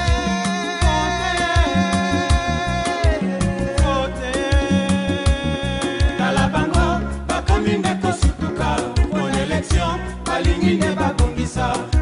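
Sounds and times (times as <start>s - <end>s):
music with drum beat: 0.0s - 12.0s.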